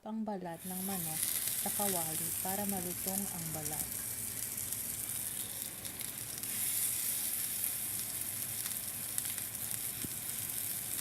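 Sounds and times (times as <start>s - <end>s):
chicken sizzling in hot oil: 0.6s - 11.0s.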